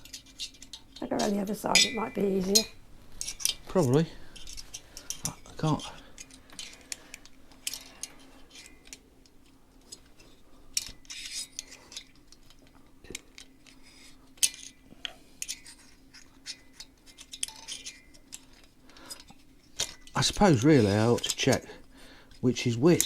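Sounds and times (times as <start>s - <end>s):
faint steady hum: 0.0s - 23.0s
metal tools clinking: 0.0s - 23.0s.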